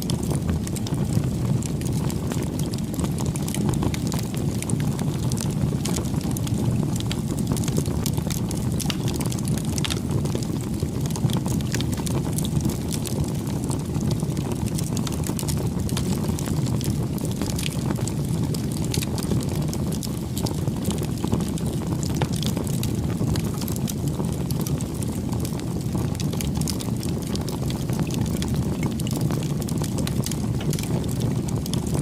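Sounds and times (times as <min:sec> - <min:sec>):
bonfire crackling and popping: 0:00.0 - 0:32.0.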